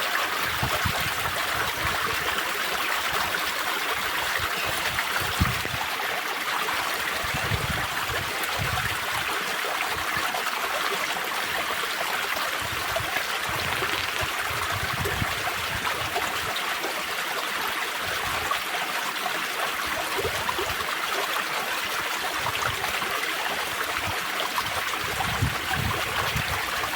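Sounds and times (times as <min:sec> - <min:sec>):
stream water trickling and gurgling: 0:00.0 - 0:26.9.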